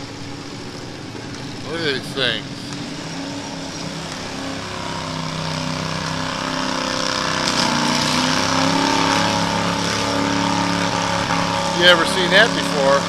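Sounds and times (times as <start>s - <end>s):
small tractor engine running: 0.0s - 13.0s.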